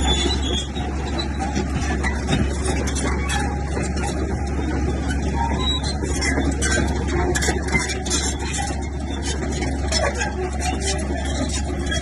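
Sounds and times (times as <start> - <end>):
diesel engine droning: 0.0 - 12.0
metallic clanking and rattling: 0.0 - 12.0.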